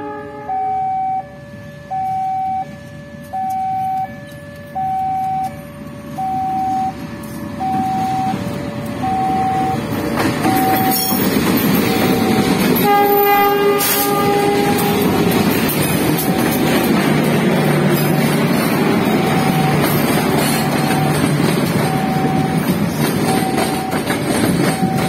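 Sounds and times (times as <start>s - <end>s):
locomotive horn: 0.0s - 9.9s, 10.5s - 23.9s
train rumbling past: 0.0s - 25.0s
two-tone crossing alarm: 0.0s - 25.0s.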